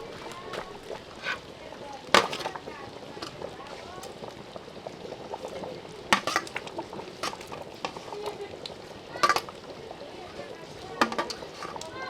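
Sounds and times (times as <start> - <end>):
faint voices talking: 0.0 - 12.0.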